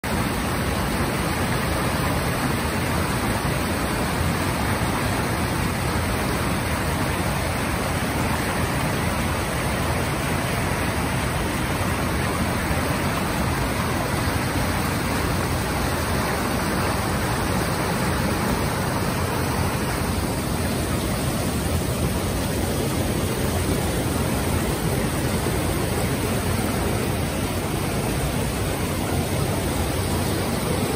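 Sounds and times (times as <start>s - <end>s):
creek water rushing over rocks: 0.0s - 30.9s.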